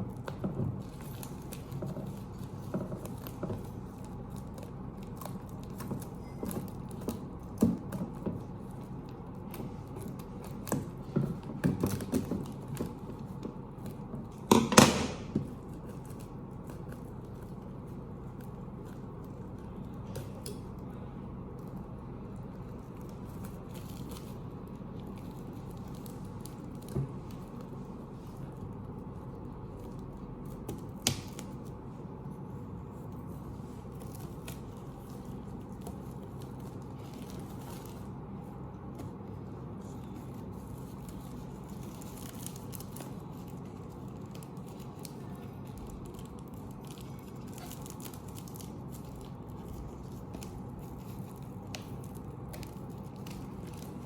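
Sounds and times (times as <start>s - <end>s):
crinkling and tearing of packing material: 0.0s - 54.0s
steady low hum: 0.0s - 54.0s.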